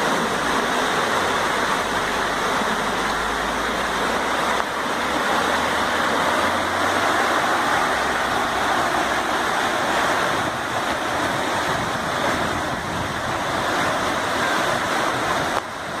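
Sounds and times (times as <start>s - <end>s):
floodwater rushing over street: 0.0s - 16.0s.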